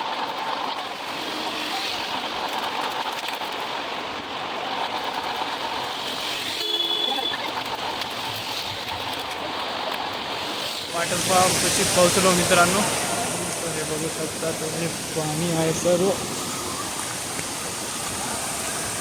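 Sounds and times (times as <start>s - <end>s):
waterfall stream rushing: 0.0s - 19.0s.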